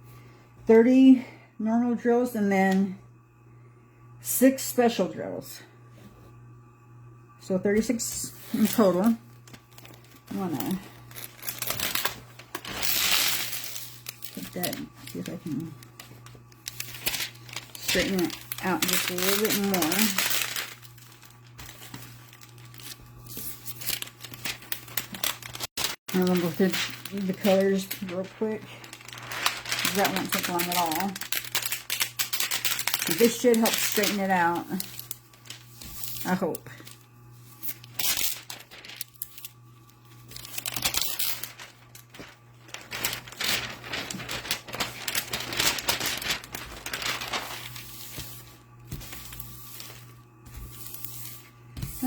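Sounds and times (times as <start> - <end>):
low steady hum: 0.0 - 52.0
plastic film crinkling: 7.9 - 52.0.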